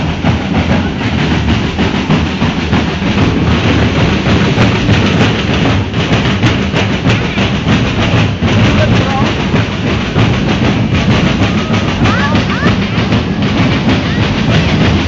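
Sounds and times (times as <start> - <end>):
drum band beating rhythms: 0.0 - 15.0.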